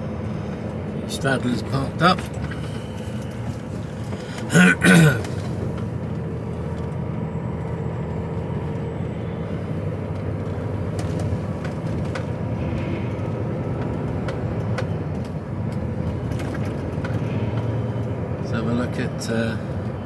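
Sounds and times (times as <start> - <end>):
truck diesel engine hum: 0.0 - 20.0.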